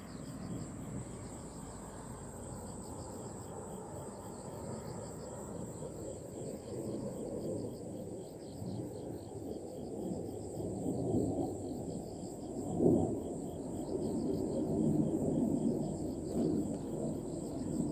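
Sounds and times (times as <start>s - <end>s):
crickets chirping: 0.0s - 17.9s.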